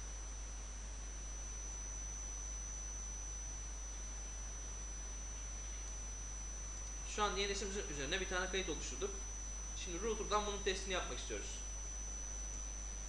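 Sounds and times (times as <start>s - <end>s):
high-pitched whine: 0.0s - 13.0s
low electrical hum: 0.0s - 13.0s.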